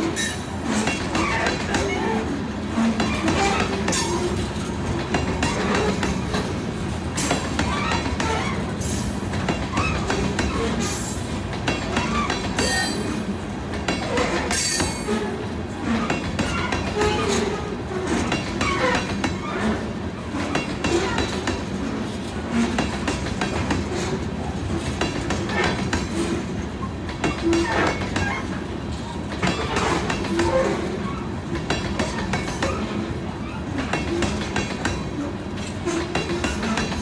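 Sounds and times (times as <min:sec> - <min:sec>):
freight train wheels clacking: 0:00.0 - 0:37.0
train rumble: 0:00.0 - 0:37.0.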